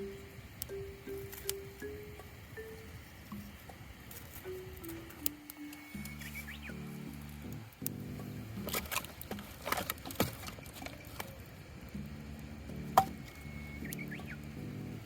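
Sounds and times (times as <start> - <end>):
campfire crackling and popping: 0.0 - 15.0
soft background music: 0.0 - 15.0.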